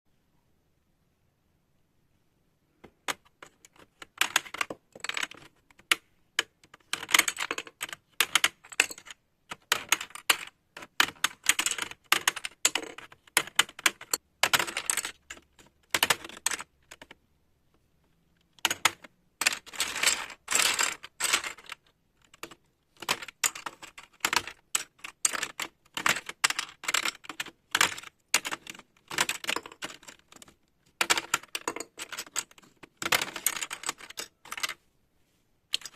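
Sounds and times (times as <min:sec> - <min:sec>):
keycaps clicking and rattling: 0:03.0 - 0:17.2, 0:18.5 - 0:34.8.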